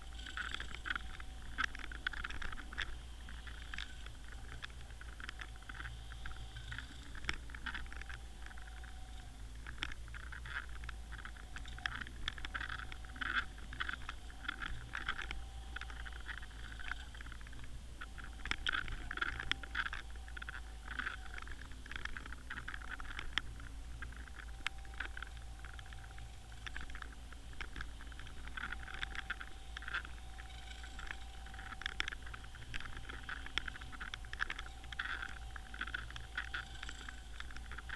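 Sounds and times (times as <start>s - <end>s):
low underwater hum: 0.0s - 37.9s
underwater crackling and clicking: 0.0s - 37.9s.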